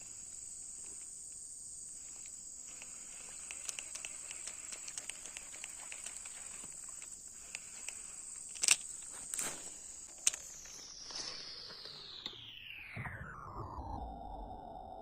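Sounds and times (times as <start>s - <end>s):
sharp clicks: 0.0s - 12.4s
insects buzzing: 0.0s - 12.9s.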